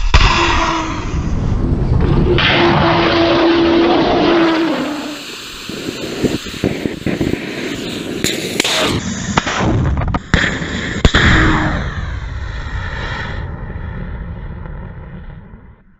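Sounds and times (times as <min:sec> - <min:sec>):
rocket motor roaring: 0:00.0 - 0:15.8.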